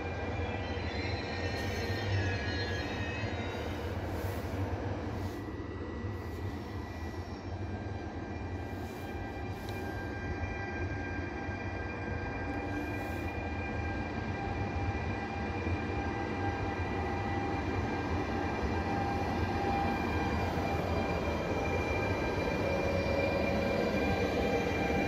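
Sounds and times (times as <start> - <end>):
electric locomotive train rumble: 0.0 - 25.0.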